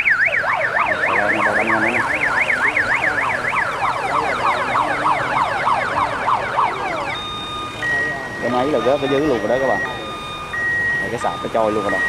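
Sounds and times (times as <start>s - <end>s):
electronic siren yelping: 0.0s - 12.0s
steady electronic tones: 0.0s - 12.0s.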